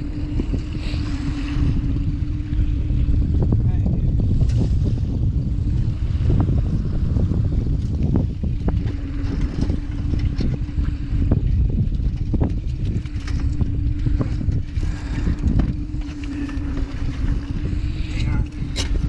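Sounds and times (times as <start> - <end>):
steady hum: 0.0 - 19.0
wind buffeting microphone: 0.0 - 19.0.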